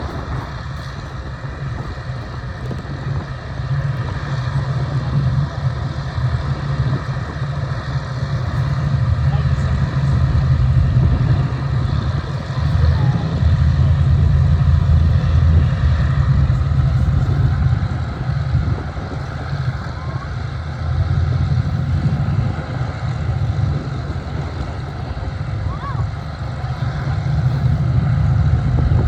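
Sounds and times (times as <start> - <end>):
aircraft piston engines droning: 0.0 - 29.0.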